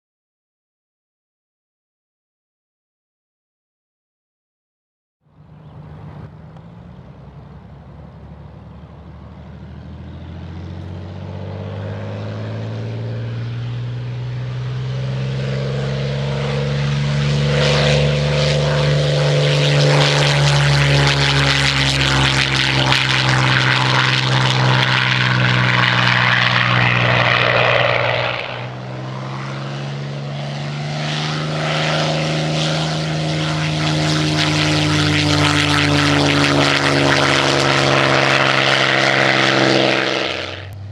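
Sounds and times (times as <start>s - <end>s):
propeller plane engine at high power: 5.2s - 40.9s.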